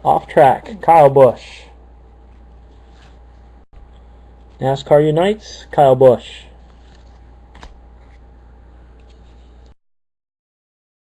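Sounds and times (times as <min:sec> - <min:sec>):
low electrical hum and hiss: 0:00.0 - 0:09.8.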